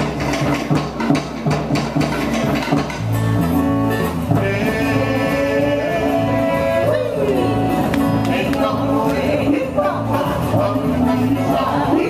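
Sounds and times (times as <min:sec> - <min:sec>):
pulsing bass line: 0:02.0 - 0:12.0.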